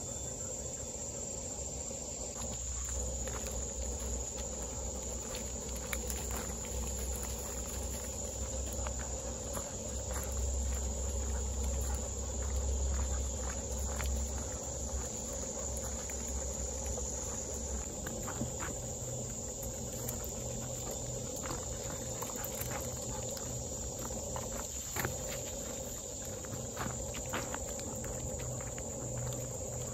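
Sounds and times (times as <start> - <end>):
insects droning: 0.0 - 29.9
footsteps on wood chips: 2.1 - 29.9.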